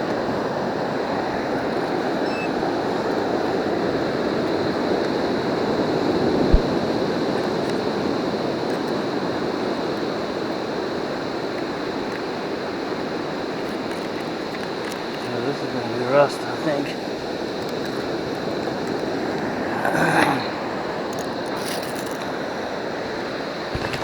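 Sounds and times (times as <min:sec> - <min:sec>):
surf washing on beach: 0:00.0 - 0:24.0.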